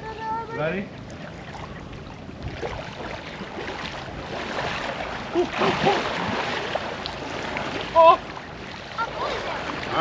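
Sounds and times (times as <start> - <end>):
lake water splashing: 0.0 - 10.0.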